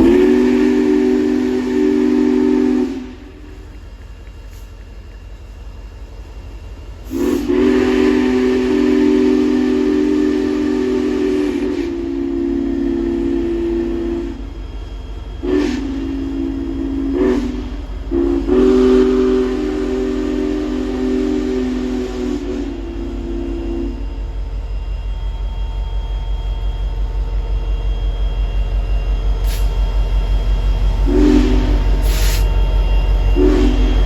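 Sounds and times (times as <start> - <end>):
steam locomotive chime whistle: 0.0 - 3.8, 6.2 - 34.0
steam hiss: 0.0 - 34.0.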